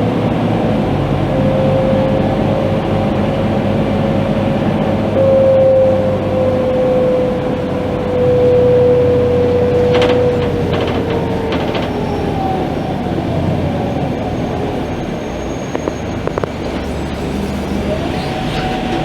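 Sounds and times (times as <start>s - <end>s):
diesel bus engine rumble: 0.0s - 19.0s
steady whine: 0.0s - 19.0s.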